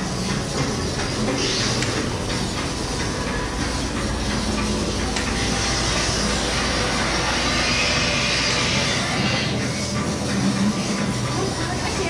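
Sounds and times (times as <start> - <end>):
rumbling indoor din: 0.0 - 12.0.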